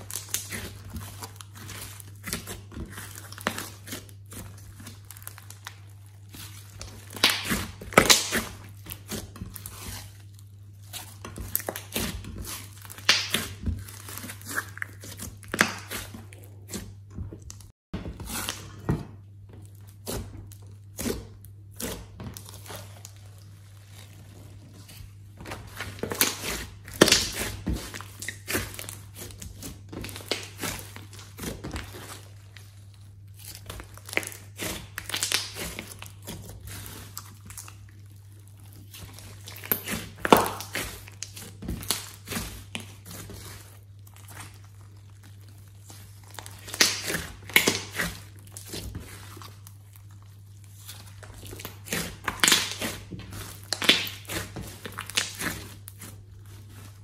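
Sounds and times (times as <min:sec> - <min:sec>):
slime squishing and popping: 0:00.0 - 0:17.7, 0:24.8 - 0:57.0.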